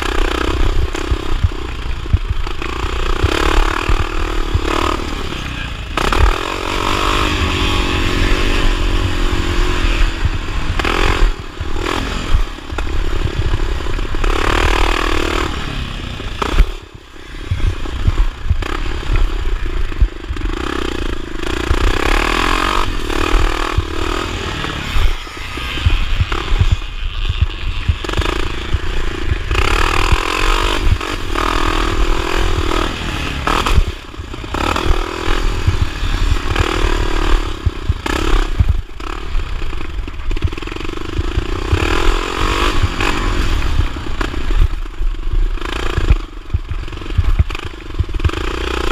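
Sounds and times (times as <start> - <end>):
motorcycle engine revving: 0.0 - 48.9
wind: 0.0 - 48.9.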